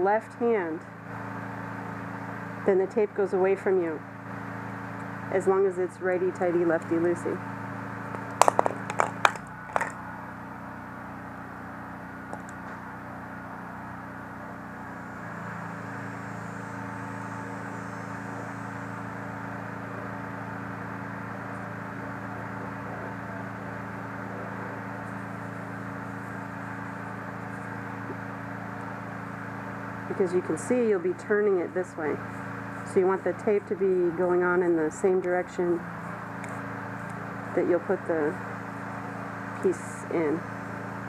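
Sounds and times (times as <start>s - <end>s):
background hum: 0.0s - 41.0s.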